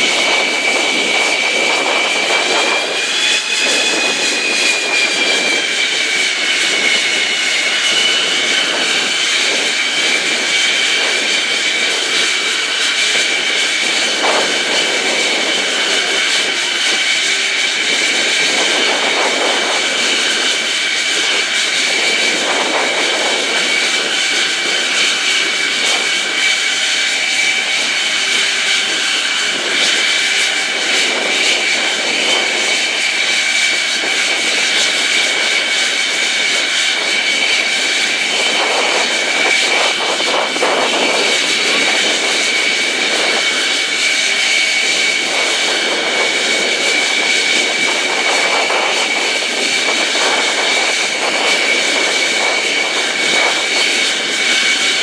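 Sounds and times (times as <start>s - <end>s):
jet engine idling whine: 0.0s - 55.0s.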